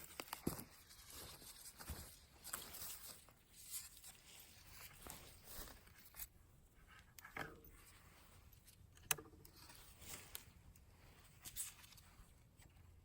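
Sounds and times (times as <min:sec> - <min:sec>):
faint knocks and scraping: 0:00.4 - 0:13.0.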